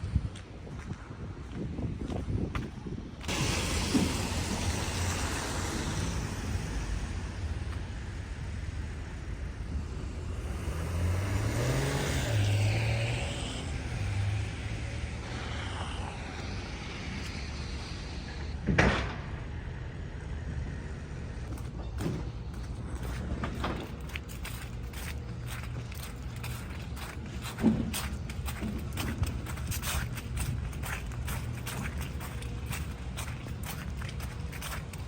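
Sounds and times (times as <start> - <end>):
steady background noise: 0.0 - 35.0
motor vehicle passing: 3.3 - 35.0.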